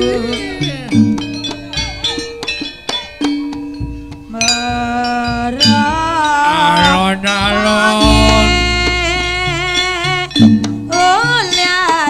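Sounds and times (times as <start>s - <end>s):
drum and percussion strokes: 0.0s - 12.0s
struck metal instruments ringing: 0.0s - 12.0s.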